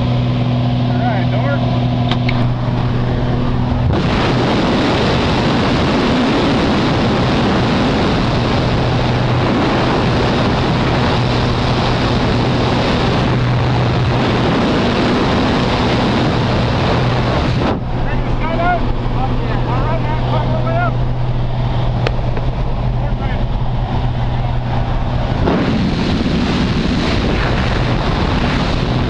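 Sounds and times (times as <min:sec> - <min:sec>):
aircraft engine drone: 0:00.0 - 0:29.0
loud wind rush: 0:00.0 - 0:29.0.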